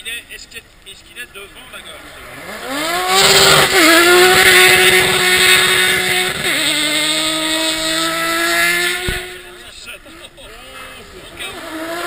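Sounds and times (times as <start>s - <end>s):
race car engine at high revs: 2.0s - 12.0s.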